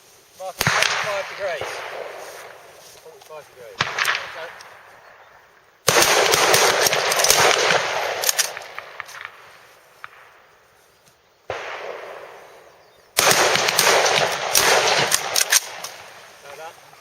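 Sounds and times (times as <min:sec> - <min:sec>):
rifle shots: 0:00.6 - 0:02.8, 0:03.6 - 0:10.4, 0:11.5 - 0:16.7.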